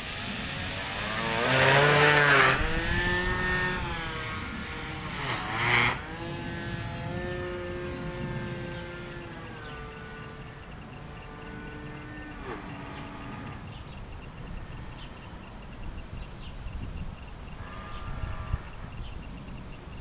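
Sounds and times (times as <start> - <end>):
electric motor and propeller whining: 0.0 - 20.0
wind rumbling on microphone: 0.0 - 20.0.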